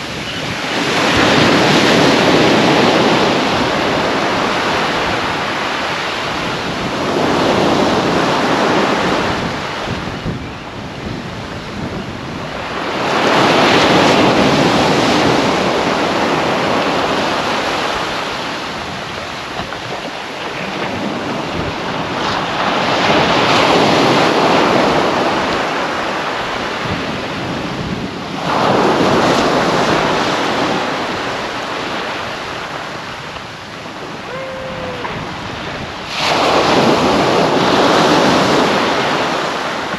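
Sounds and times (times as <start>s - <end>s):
surf breaking on a beach: 0.0s - 39.9s.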